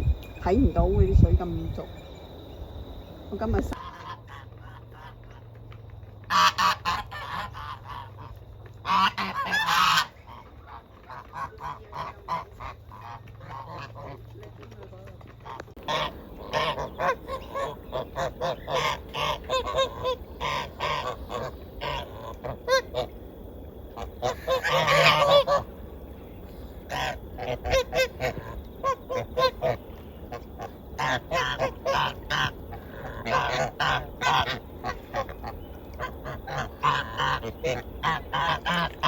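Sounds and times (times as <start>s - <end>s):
geese honking: 3.0s - 39.0s.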